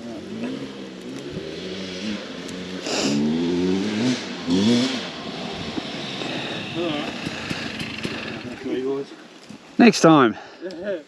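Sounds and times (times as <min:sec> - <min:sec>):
dirt bike engine revving: 0:00.0 - 0:08.9.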